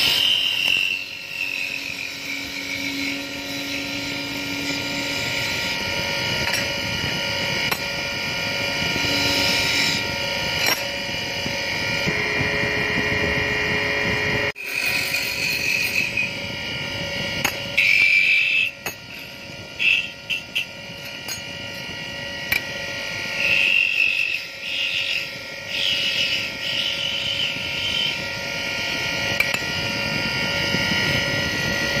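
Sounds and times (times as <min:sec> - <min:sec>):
chisel scraping spinning wood: 0:00.0 - 0:12.2, 0:14.6 - 0:28.3
lathe motor hum: 0:00.0 - 0:32.0.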